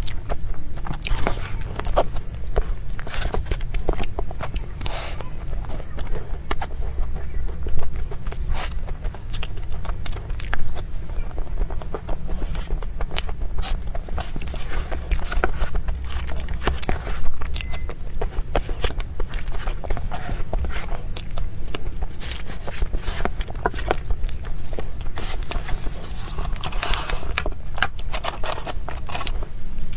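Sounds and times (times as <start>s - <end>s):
wet chewing clicks and smacks: 0.0s - 25.8s
steady low hum: 0.0s - 29.9s.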